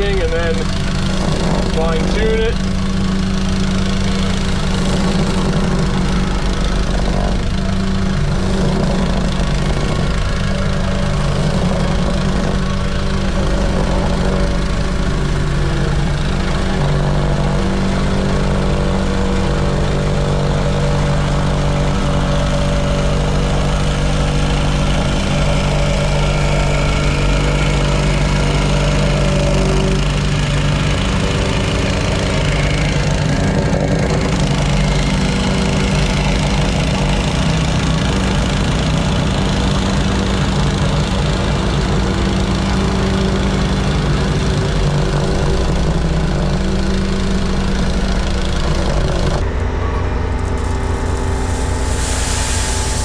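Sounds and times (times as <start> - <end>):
compactor engine pounding: 0.0 - 53.0.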